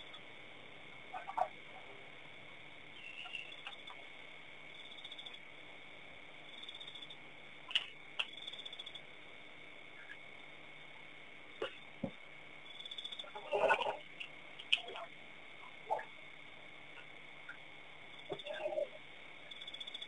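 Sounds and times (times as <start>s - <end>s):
insects chirping trills: 0.0s - 20.0s
steady high hum: 0.0s - 20.0s.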